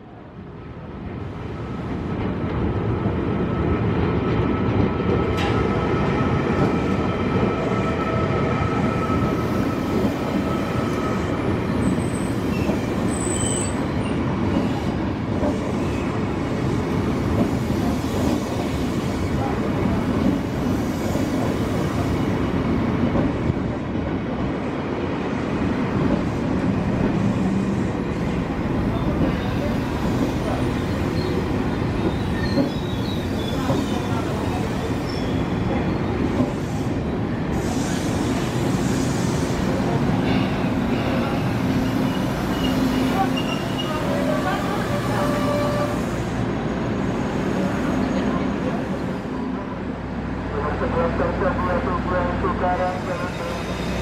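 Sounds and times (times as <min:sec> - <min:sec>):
electric train rumbling past: 0:00.0 - 0:54.0.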